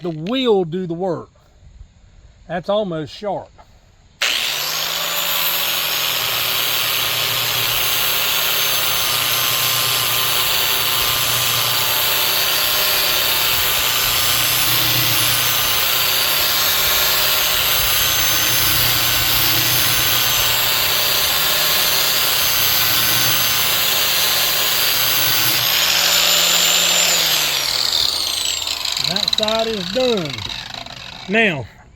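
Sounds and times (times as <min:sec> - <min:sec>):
angle grinder grinding steel: 0:04.2 - 0:31.7.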